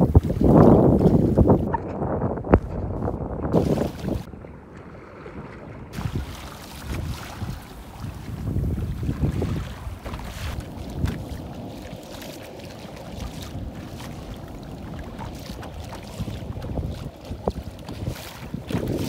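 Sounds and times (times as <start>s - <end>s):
wind buffeting microphone: 0.0s - 19.0s
sea water splashing: 3.5s - 19.0s.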